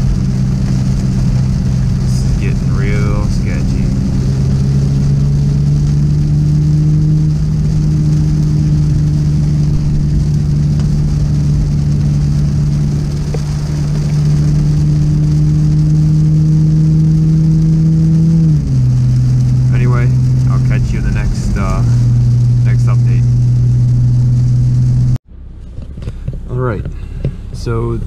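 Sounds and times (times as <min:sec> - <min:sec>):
tyre and rain hiss: 0:00.0 - 0:25.2
car engine drone: 0:00.0 - 0:28.0.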